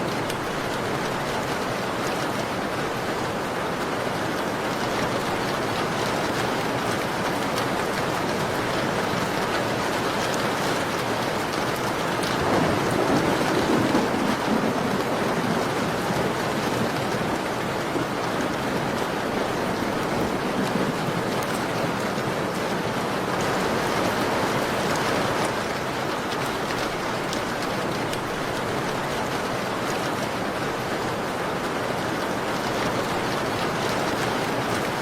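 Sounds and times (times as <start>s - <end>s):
rain pattering on a window: 0.0s - 35.0s.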